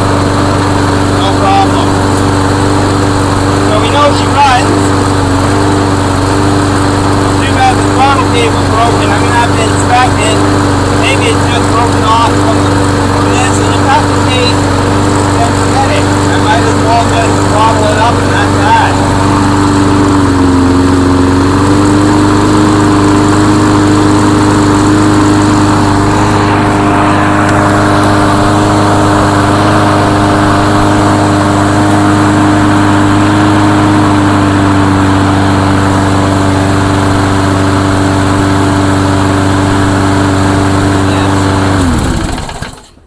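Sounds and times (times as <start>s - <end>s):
lawn mower engine running: 0.0s - 43.0s.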